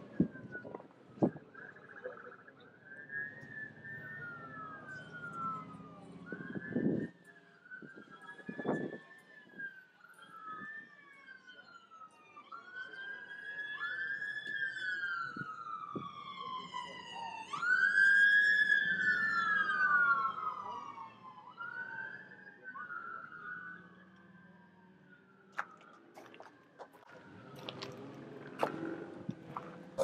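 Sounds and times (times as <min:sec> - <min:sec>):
emergency siren wailing: 0:00.0 - 0:30.0
second siren: 0:00.0 - 0:30.0.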